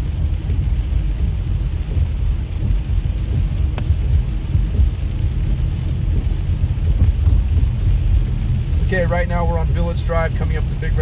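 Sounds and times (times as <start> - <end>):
heavy rain on car: 0.0 - 11.0
tyres on wet road: 0.0 - 11.0.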